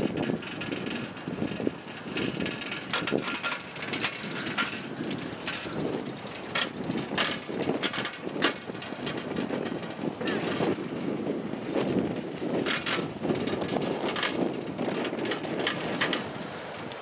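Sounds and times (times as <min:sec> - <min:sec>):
bicycles rattling rumble: 0:00.0 - 0:17.0
bikes knocking over bumps: 0:00.0 - 0:17.0.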